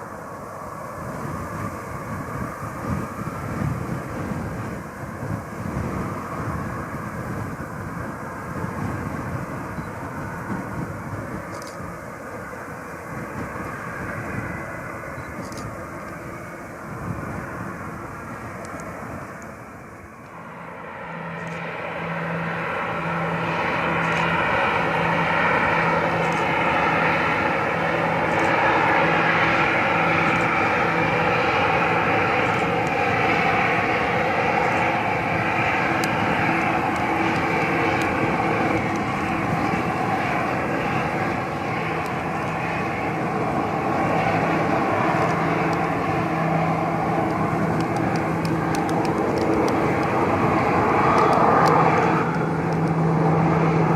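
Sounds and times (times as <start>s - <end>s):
airliner engine noise: 0.0s - 53.9s.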